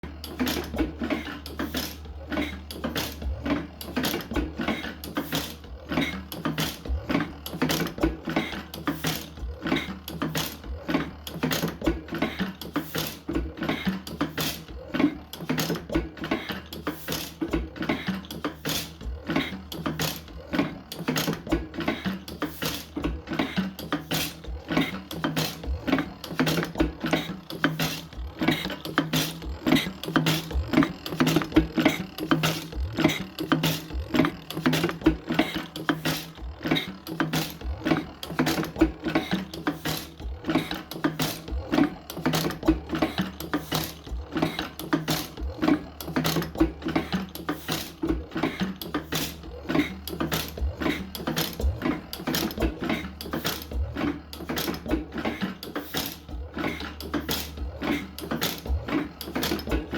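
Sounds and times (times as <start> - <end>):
old engine clattering: 0.0 - 59.9.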